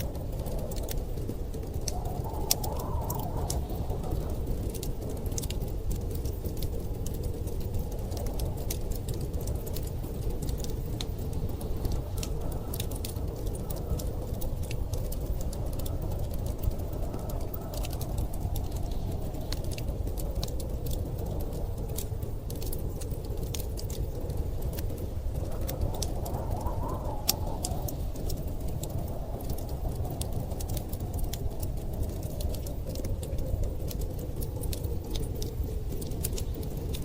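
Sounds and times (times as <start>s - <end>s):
storm wind howling: 0.0s - 37.0s
wood fire crackling and popping: 0.0s - 37.0s.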